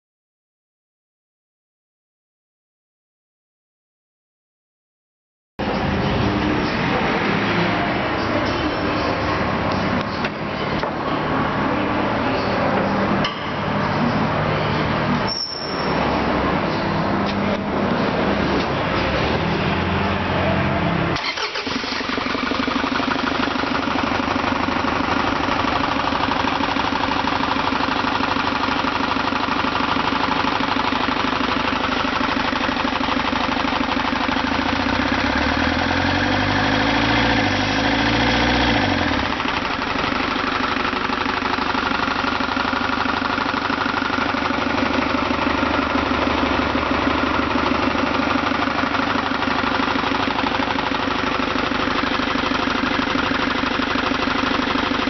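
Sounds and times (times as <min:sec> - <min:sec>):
diesel engine idling and revving: 0:05.6 - 0:55.0.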